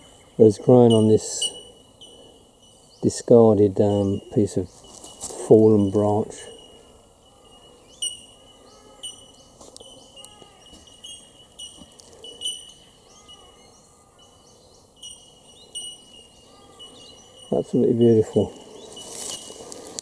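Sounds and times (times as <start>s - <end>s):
birds chirping and whistling: 0.0s - 20.0s
faint insect hum: 0.0s - 20.0s.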